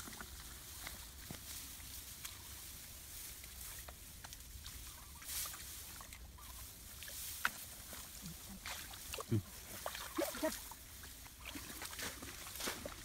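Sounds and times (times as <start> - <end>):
grass rustling: 0.0 - 13.0.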